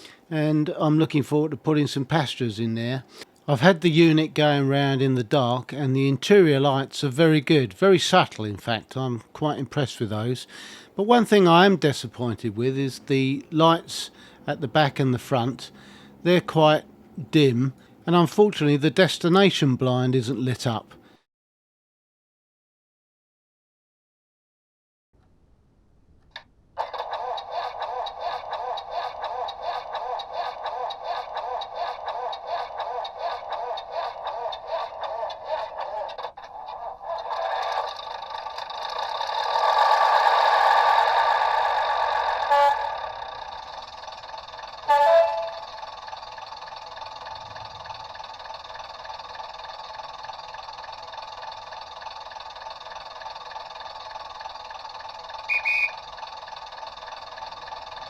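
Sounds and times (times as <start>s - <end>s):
model train diesel engine sounds: 0.0s - 21.2s, 26.8s - 58.0s.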